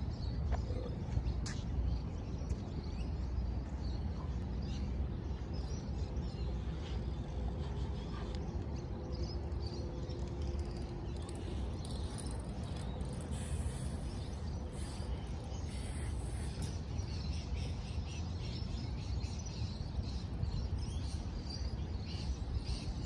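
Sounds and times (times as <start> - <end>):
faint steady hum: 0.0 - 23.0
steady low rumble: 0.0 - 23.0.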